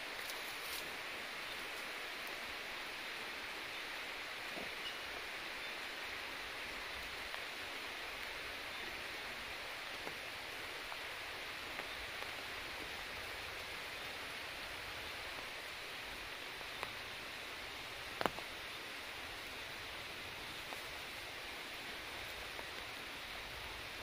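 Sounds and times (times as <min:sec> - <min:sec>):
forest ambience hiss: 0:00.0 - 0:24.0.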